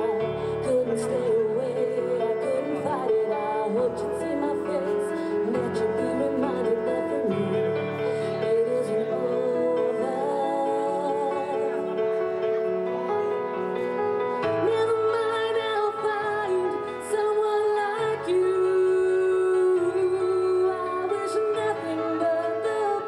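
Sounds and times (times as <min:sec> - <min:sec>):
woman singing: 0:00.0 - 0:12.6, 0:14.2 - 0:23.0
backing track music: 0:00.0 - 0:23.0.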